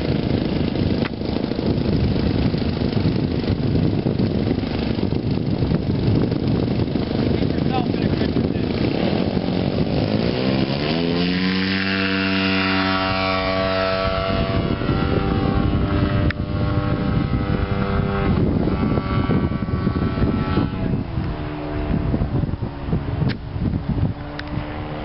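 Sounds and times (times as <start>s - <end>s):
model plane gas engine revving: 0.0s - 23.2s, 24.1s - 25.0s.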